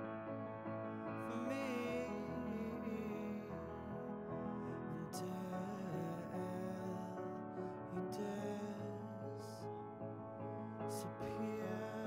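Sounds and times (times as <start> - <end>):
slow piano ballad: 0.0 - 12.0.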